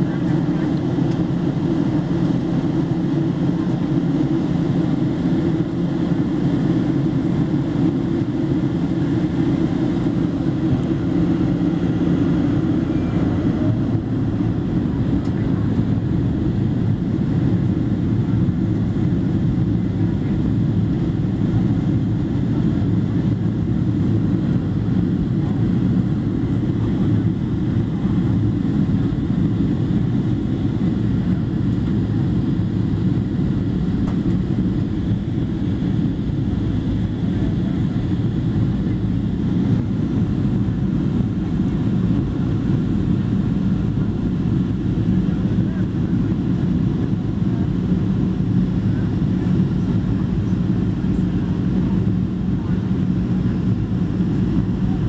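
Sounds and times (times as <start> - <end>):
airflow over fuselage: 0.0 - 55.0
airplane cabin engine drone: 0.0 - 55.0.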